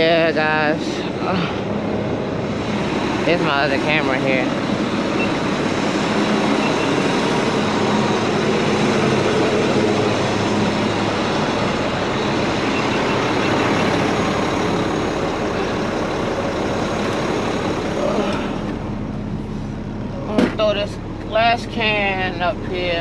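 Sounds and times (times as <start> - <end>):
garbage truck diesel engine idling: 4.3 - 23.0.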